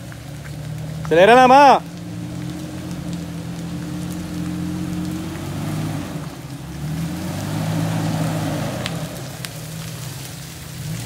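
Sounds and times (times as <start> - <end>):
car engine revving under throttle: 0.0 - 11.0
hiss of tyres on trail: 2.0 - 11.0.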